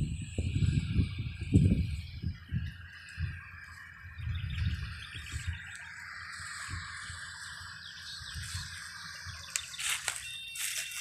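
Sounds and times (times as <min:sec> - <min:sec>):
birds chirping: 0:00.0 - 0:11.0
steady outdoor hiss: 0:00.0 - 0:11.0.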